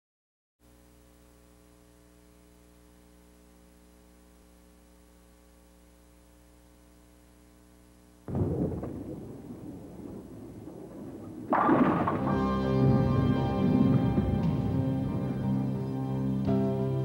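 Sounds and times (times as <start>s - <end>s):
background hiss: 0.6s - 17.0s
mains hum: 0.6s - 17.0s.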